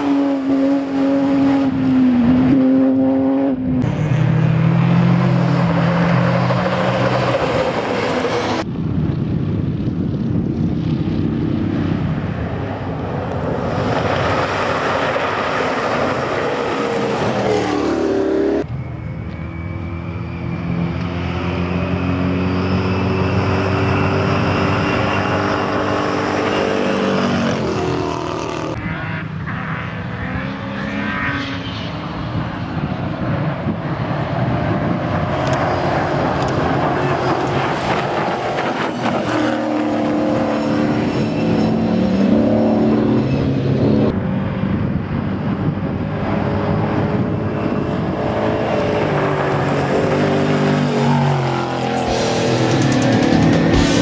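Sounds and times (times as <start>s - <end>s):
rally car engines revving: 0.0s - 8.7s, 10.9s - 54.0s.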